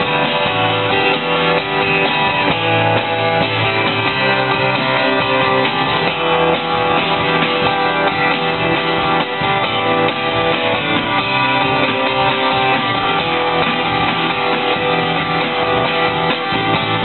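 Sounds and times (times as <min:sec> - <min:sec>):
acoustic guitars strumming: 0:00.0 - 0:17.0
electric bass guitar: 0:00.0 - 0:17.0.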